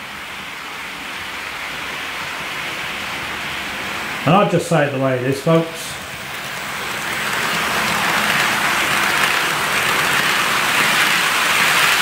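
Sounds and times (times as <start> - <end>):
model train rattling on track: 0.0 - 12.0.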